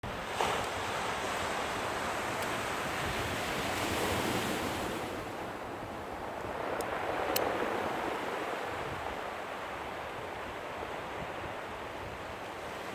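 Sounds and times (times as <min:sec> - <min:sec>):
surf breaking on beach: 0:00.0 - 0:12.9
wind buffeting microphone: 0:00.0 - 0:12.9.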